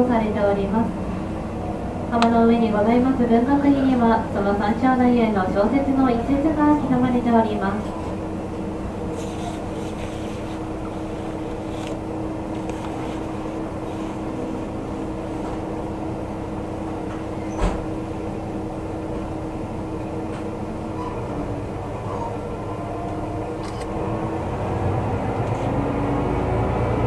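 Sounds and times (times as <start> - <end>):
train interior rumble: 0.0 - 27.0.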